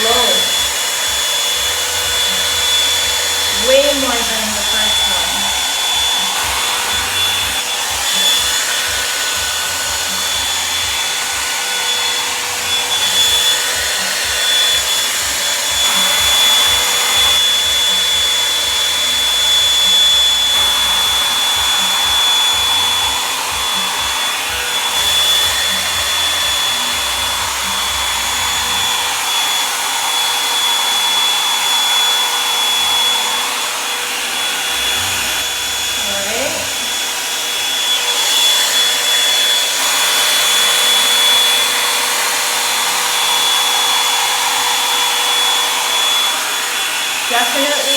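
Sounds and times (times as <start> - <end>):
hair dryer brush blowing hot air: 0.0 - 47.9.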